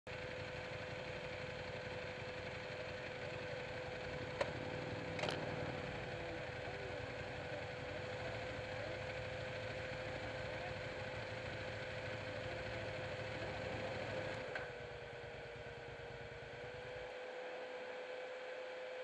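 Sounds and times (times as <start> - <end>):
motorcycle engine idling: 0.1 - 17.0.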